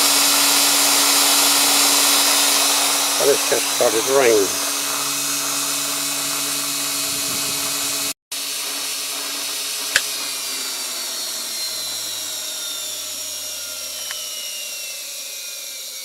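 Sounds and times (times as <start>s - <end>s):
motor whining: 0.0s - 8.2s, 9.8s - 16.0s.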